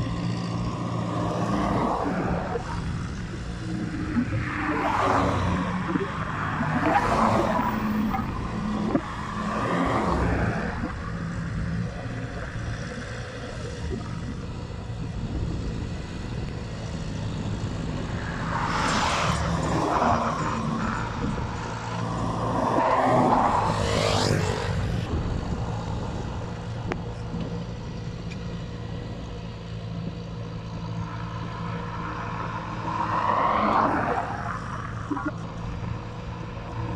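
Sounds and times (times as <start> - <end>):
vehicles passing by: 0.0 - 36.9.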